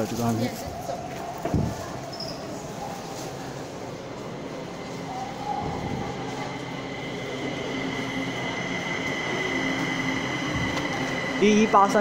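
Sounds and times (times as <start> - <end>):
train approaching with whine: 0.0 - 12.0.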